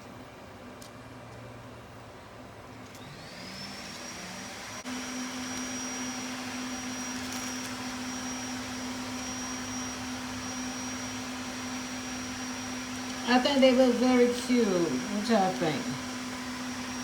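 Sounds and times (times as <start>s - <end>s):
electric motor whining: 3.0s - 17.0s.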